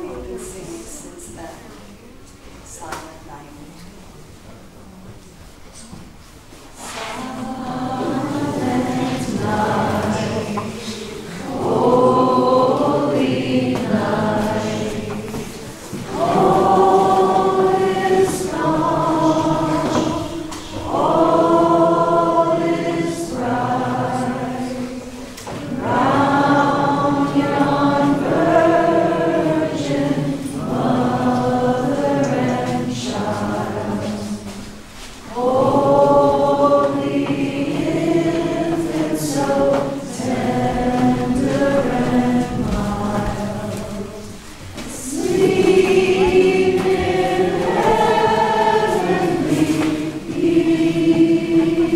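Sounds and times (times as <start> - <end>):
group singing a carol: 6.6 - 51.9.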